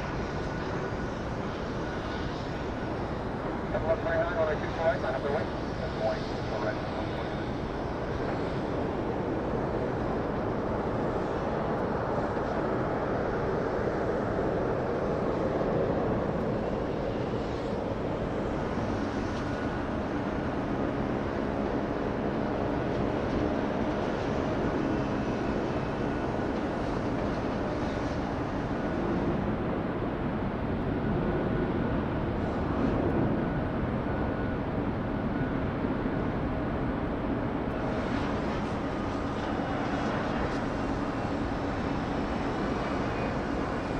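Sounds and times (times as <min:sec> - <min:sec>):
faint steady whine: 0:00.0 - 0:43.9
jet engine rumble: 0:00.0 - 0:43.9.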